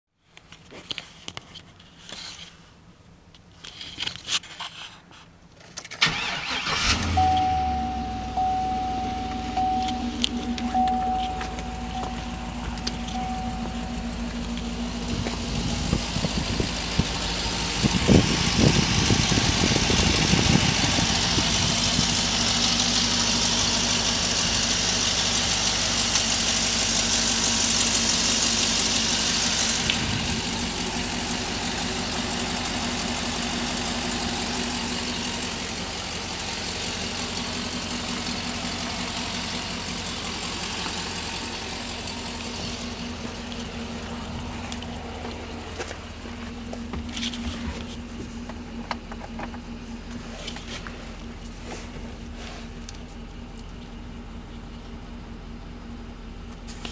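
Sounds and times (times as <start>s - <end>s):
car engine idling: 6.0s - 56.9s.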